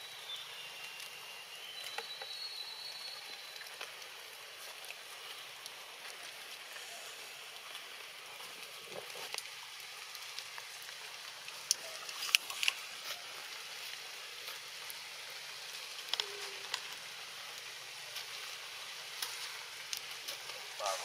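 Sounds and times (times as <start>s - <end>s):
rain falling on leaves: 0.0s - 21.0s.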